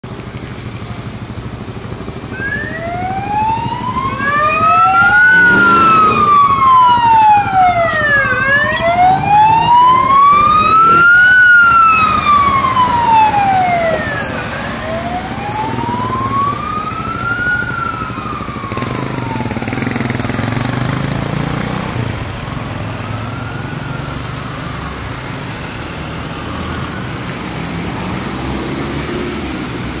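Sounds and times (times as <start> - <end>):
engines and traffic: 0.0 - 30.0
emergency sirens wailing: 0.3 - 30.0.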